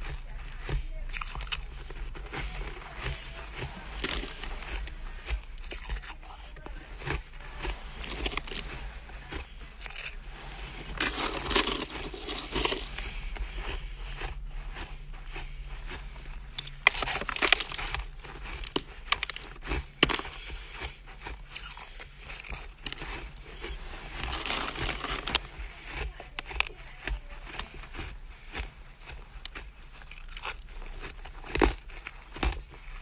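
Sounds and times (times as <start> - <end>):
frost being chewed and crunched: 0.0 - 33.0.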